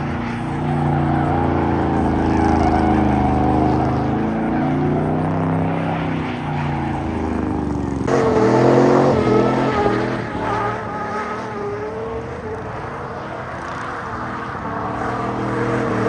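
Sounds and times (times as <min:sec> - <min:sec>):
loud engine: 0:00.0 - 0:16.0
truck engines running: 0:00.0 - 0:16.0.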